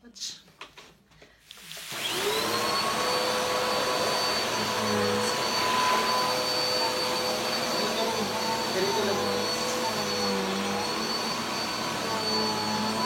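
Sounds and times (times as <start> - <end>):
vacuum cleaner running: 1.5 - 13.0.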